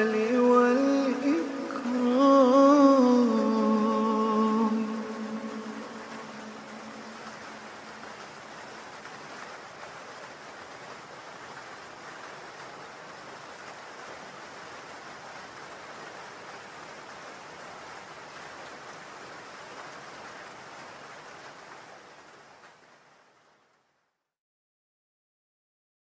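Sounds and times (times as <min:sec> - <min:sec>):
rush of water-like noise: 0:00.0 - 0:24.1.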